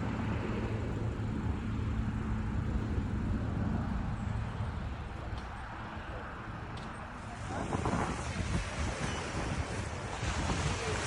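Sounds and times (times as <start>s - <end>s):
low outdoor rumbling: 0.0s - 11.0s.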